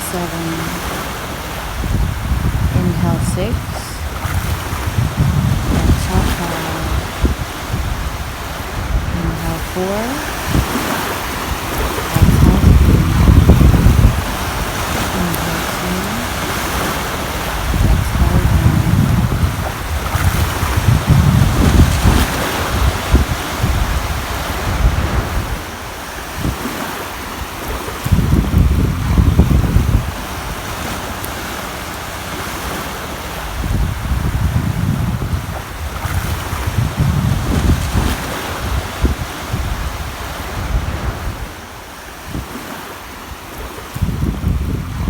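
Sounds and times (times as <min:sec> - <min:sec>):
waves breaking on shore: 0:00.0 - 0:45.0.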